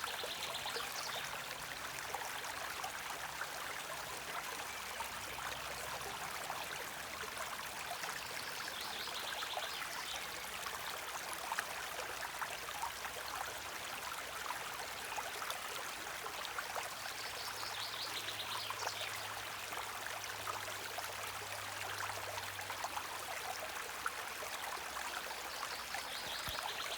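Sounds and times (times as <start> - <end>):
stream flowing: 0.0 - 26.9.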